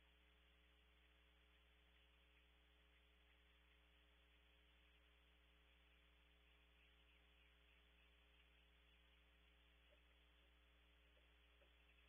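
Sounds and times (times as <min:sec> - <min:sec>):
faint steady hum and hiss: 0:00.0 - 0:12.0.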